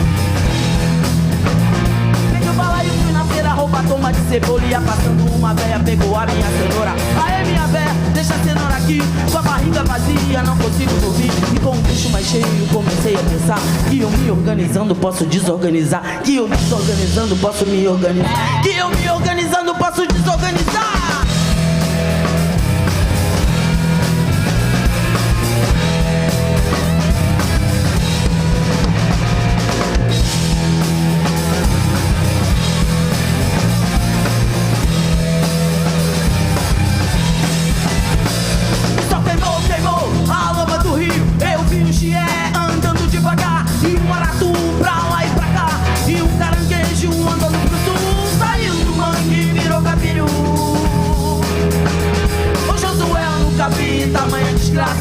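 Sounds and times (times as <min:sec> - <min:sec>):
lead guitar with bending notes: 0:00.0 - 0:14.6, 0:20.6 - 0:55.0
rock band playing: 0:00.0 - 0:55.0.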